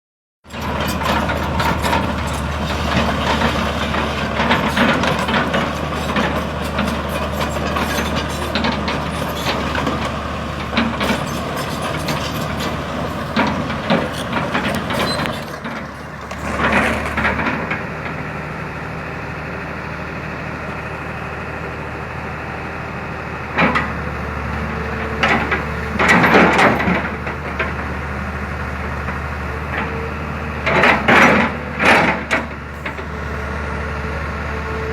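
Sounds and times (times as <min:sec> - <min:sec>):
engine knocks and clatter: 0:00.4 - 0:34.9
diesel engine running: 0:00.5 - 0:34.9.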